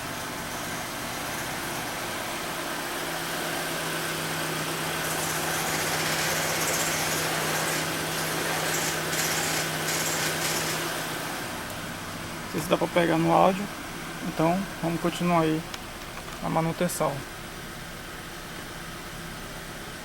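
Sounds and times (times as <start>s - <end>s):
car engine idling: 0.0s - 20.0s
clutch droning: 0.0s - 20.0s.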